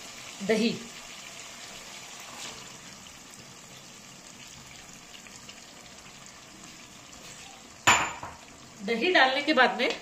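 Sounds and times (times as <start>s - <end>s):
meat and spices sizzling in a pan: 0.0s - 10.0s.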